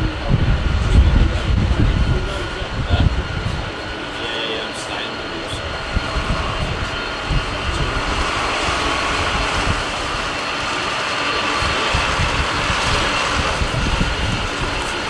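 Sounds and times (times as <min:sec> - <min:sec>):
jet engines running: 0:00.0 - 0:15.0
wind buffeting microphone: 0:00.0 - 0:15.0.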